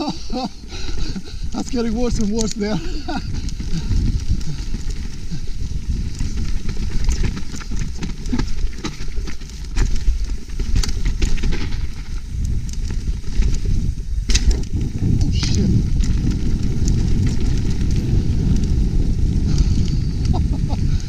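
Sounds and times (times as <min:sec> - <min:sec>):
tyres crunching: 0:00.0 - 0:20.7
bike rattling over roots: 0:00.0 - 0:21.0
wind rumble on microphone: 0:00.0 - 0:21.0.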